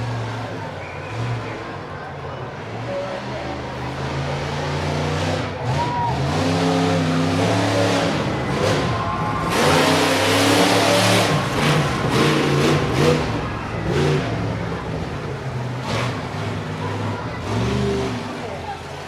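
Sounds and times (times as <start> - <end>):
truck engine revving hard: 0.0 - 19.0.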